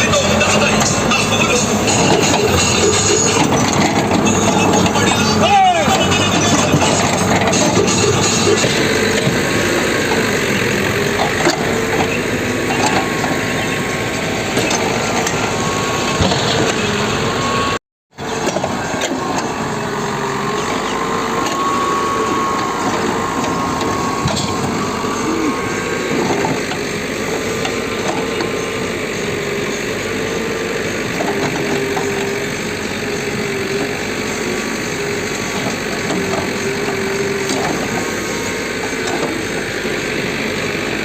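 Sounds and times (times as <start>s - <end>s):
diesel engines running: 0.0s - 41.0s.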